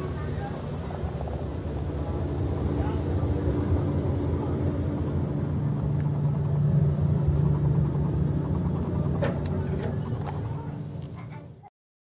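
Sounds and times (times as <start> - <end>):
low machinery drone: 0.0 - 11.7.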